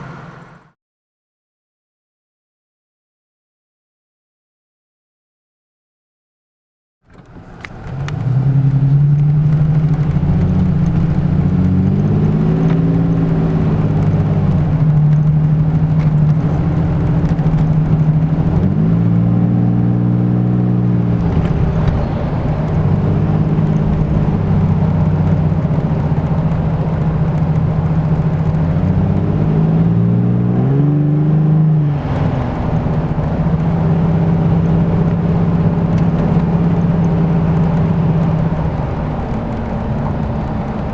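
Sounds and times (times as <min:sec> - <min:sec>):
engine idling and revving: 0:00.0 - 0:00.8, 0:07.0 - 0:40.9.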